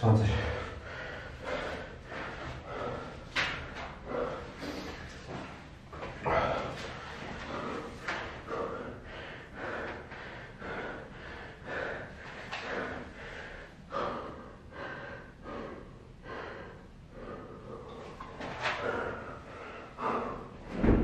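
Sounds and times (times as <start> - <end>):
man panting heavily: 0.0 - 21.0.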